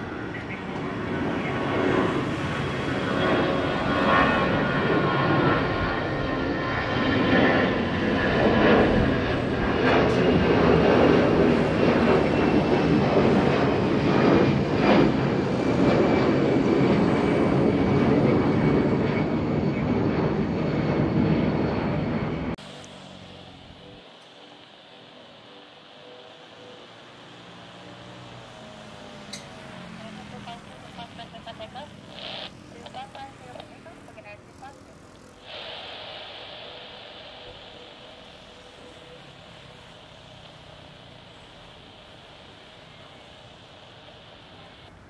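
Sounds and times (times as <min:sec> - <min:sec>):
faint high engine whine: 0:00.0 - 0:45.0
jet engines roaring: 0:00.0 - 0:45.0.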